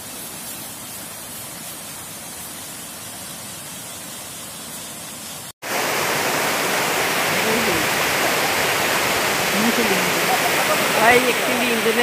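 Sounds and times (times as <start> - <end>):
waterfall and rapids rushing: 0.0 - 12.0.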